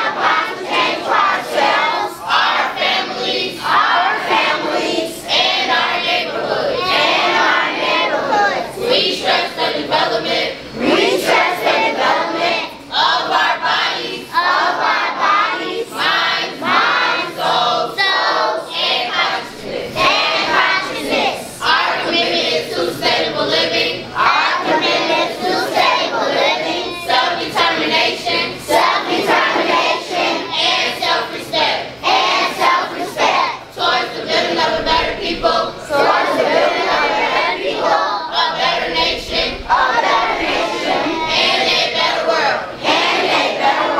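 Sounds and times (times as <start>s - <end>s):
group chanting in unison: 0.0s - 43.9s.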